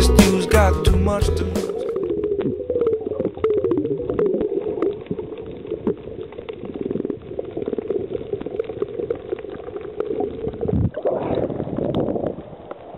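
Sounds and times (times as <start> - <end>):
underwater bubbling and crackling: 1.8 - 12.9.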